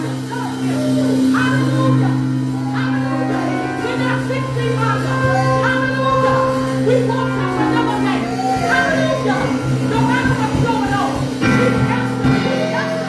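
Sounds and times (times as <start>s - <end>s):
voices singing: 0.0s - 13.0s.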